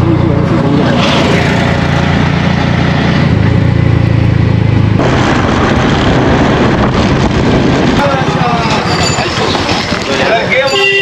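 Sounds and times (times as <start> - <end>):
auto-rickshaw engine running: 0.0 - 10.5
road noise: 0.0 - 11.0.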